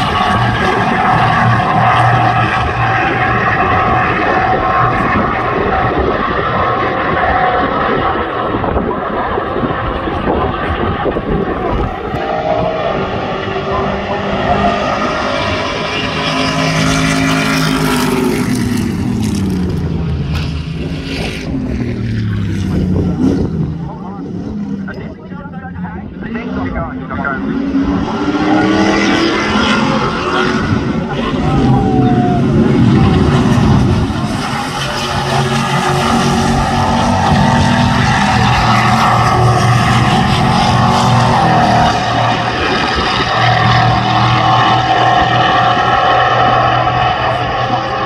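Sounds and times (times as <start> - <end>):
truck engines racing past: 0.0 - 48.0.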